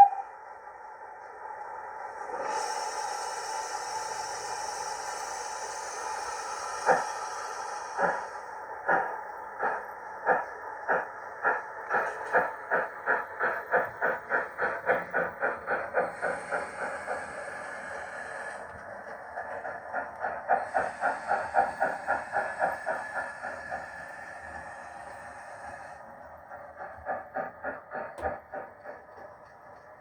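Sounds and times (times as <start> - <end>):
steam exhaust chuffs: 2.3 - 29.4.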